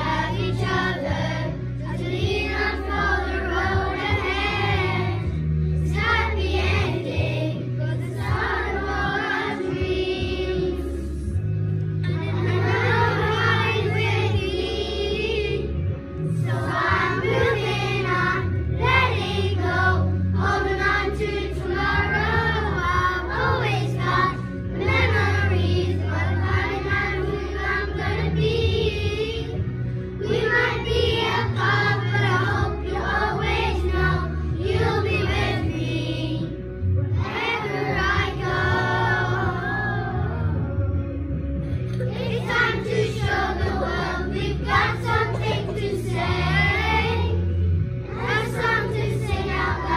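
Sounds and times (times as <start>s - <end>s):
children singing: 0.0s - 11.3s, 12.0s - 36.6s, 37.2s - 40.7s, 42.0s - 49.9s
instrumental backing track: 0.0s - 49.9s.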